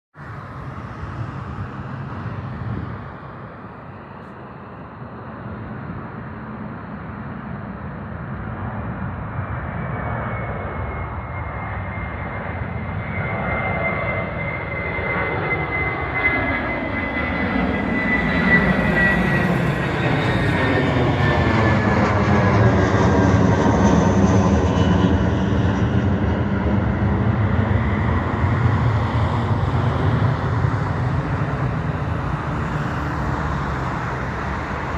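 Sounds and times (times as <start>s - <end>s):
high jet engine whine: 0.1s - 34.9s
jet airliner taking off: 0.2s - 34.9s.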